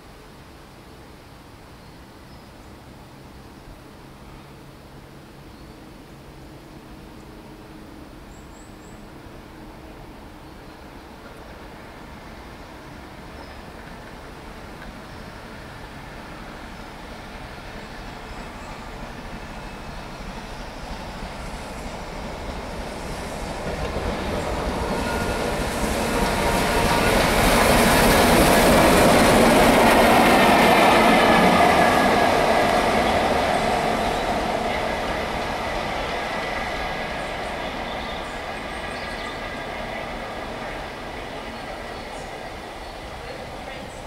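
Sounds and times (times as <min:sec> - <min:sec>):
steam locomotive passing: 0:02.2 - 0:44.0.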